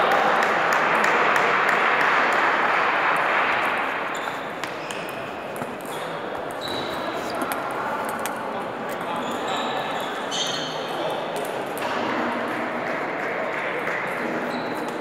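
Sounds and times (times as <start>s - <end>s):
loud hall noise: 0.0s - 15.0s.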